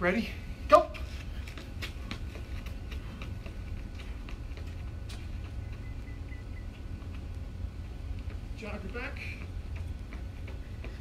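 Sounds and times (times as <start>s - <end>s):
sneaker footsteps on concrete: 0.7s - 11.0s.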